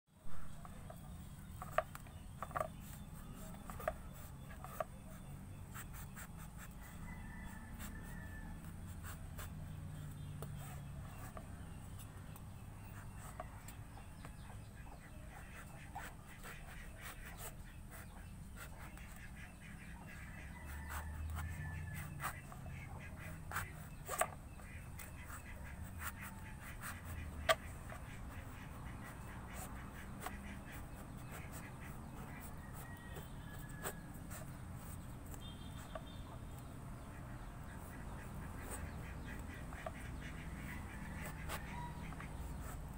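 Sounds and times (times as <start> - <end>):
knife scoring fruit rind: 0.5 - 42.9.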